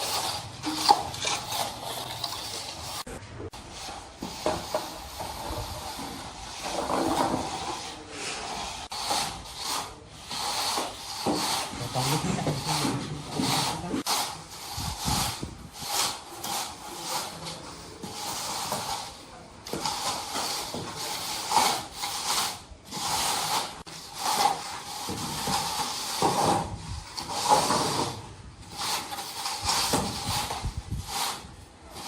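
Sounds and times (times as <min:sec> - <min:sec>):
tiling scraping and rubbing: 0:00.0 - 0:32.0.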